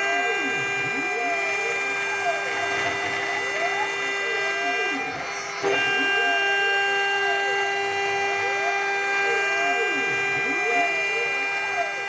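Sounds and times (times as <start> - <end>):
spindle whining: 0.0 - 12.0
stepper motors whine sweeping: 0.0 - 12.0.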